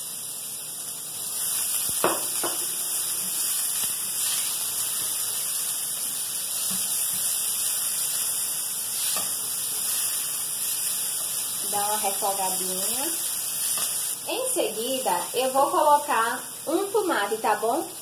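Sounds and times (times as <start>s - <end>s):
onion sizzling in oil: 0.0s - 18.0s.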